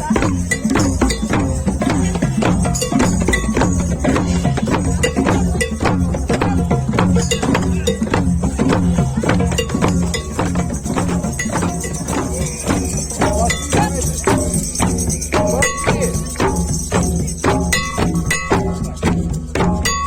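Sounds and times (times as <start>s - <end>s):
steady low bass line: 0.0s - 19.0s
busy percussion beat: 0.0s - 20.0s.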